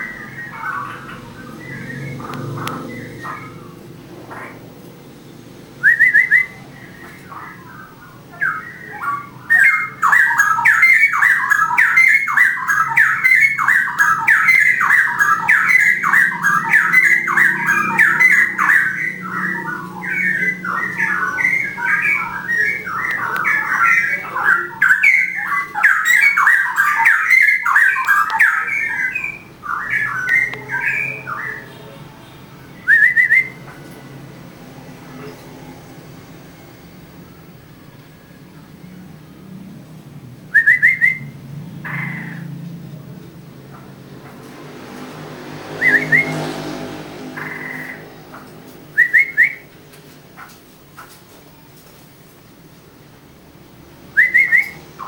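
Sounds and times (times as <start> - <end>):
songbird singing: 0.0 - 51.7, 52.6 - 55.0.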